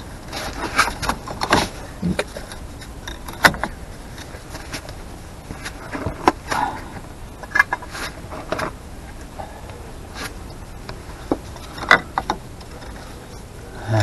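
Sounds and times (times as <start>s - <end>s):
brake parts and tools clinking: 0.0s - 14.0s.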